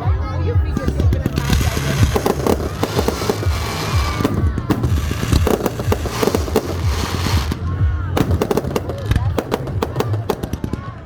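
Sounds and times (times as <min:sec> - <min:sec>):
fireworks bangs and booms: 0:00.7 - 0:11.0
fireworks crackling: 0:00.7 - 0:11.0.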